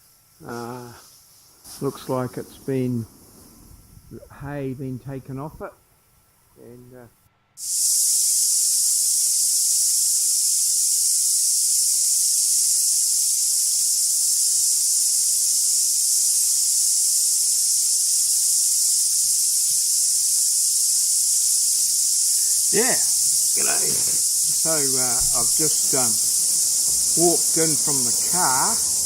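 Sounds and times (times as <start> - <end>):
cicadas shrilling: 0.0 - 5.5, 7.6 - 29.0.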